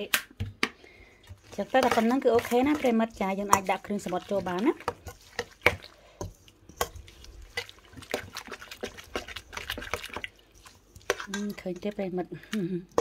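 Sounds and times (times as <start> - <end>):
wet squelching and dripping: 1.0 - 11.4.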